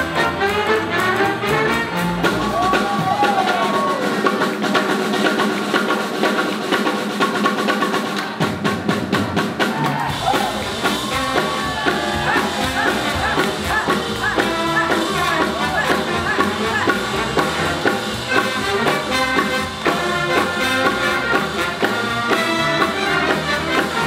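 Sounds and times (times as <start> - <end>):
drum kit: 0.0 - 24.0
swing jazz band playing: 0.0 - 24.0.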